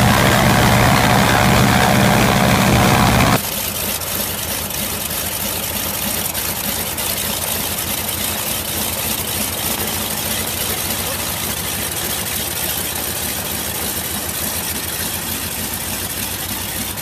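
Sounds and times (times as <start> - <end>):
radial engine running loudly: 0.0 - 3.4, 6.2 - 17.0
radial engine idling: 0.0 - 17.0.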